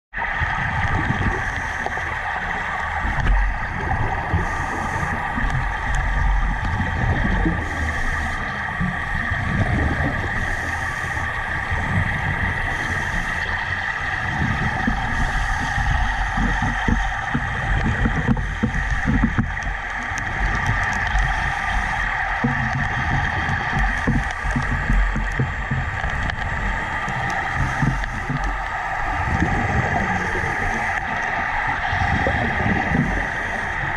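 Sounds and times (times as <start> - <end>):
surging low rumble: 0.1 - 33.9
underwater air rushing and gurgling: 0.1 - 33.9.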